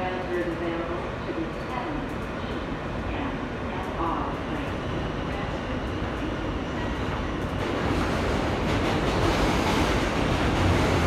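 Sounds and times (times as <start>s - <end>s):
subway wheels rumbling on rail: 0.0s - 11.0s.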